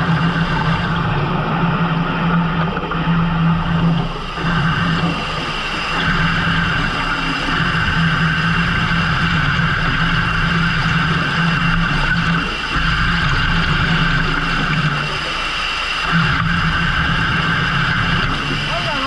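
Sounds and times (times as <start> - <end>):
boat engine low hum: 0.0 - 19.0
boat engine whine: 0.0 - 19.0.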